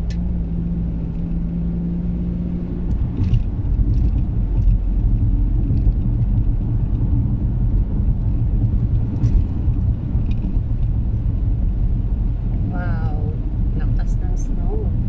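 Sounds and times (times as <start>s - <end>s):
car driving on snowy road: 0.0s - 15.0s.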